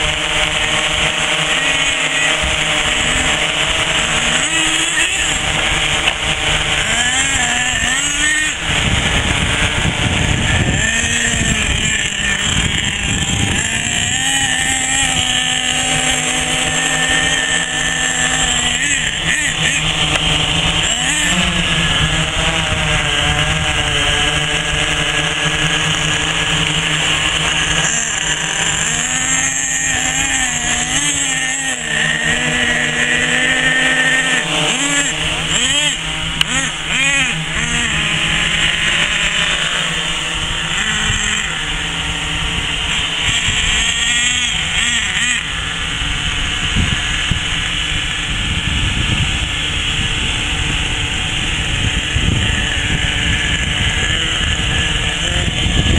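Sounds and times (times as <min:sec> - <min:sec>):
drone motors whining: 0:00.0 - 0:55.9
model truck engine revving: 0:00.0 - 0:55.9.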